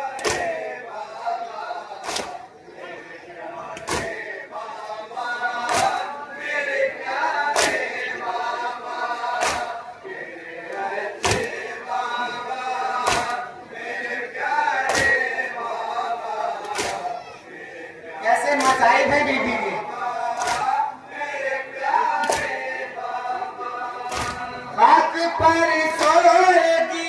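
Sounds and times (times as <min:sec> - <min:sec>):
men chanting together: 0:00.0 - 0:27.0.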